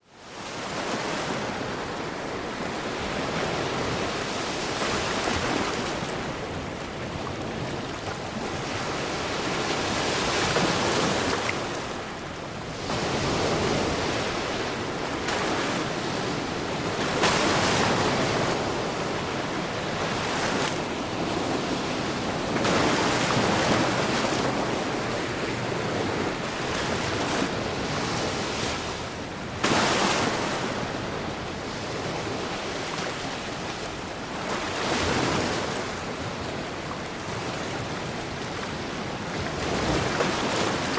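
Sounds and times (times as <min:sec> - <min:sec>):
sea waves washing onto shore: 0:00.3 - 0:40.9.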